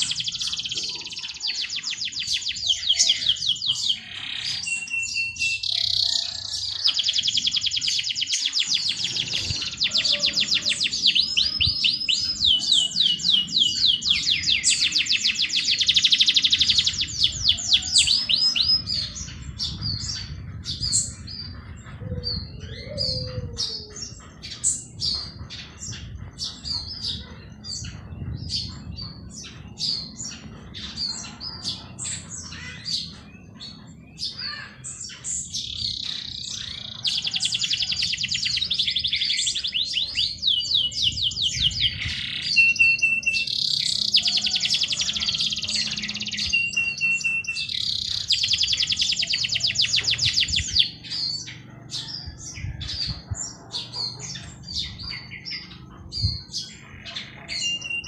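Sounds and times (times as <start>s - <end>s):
bird chirps: 0.0s - 58.0s
songbirds trilling: 0.0s - 58.0s.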